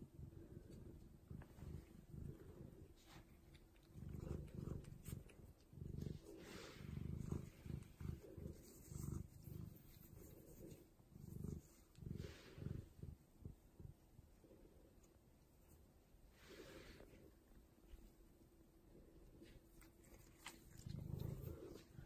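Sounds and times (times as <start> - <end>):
cat purring: 0.0 - 22.0
cat sniffing and nibbling: 0.1 - 22.0.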